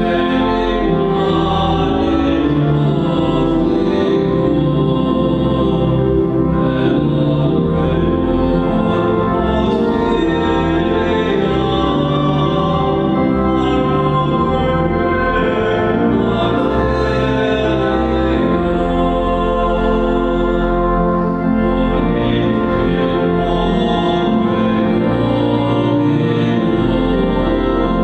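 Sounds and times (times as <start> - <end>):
slow sacred music: 0.0 - 28.0.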